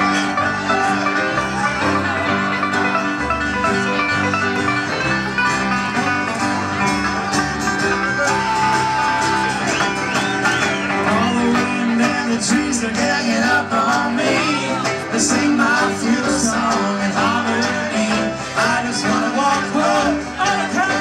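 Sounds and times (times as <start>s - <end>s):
acoustic string band playing: 0.0s - 21.0s.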